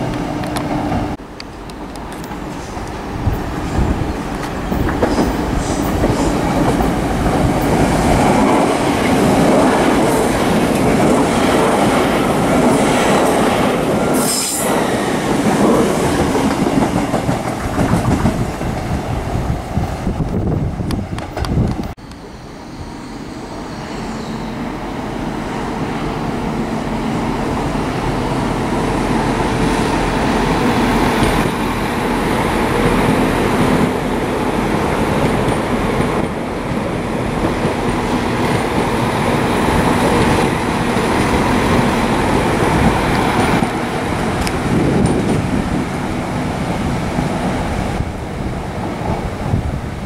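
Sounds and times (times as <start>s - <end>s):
train running along track: 0.0s - 50.0s.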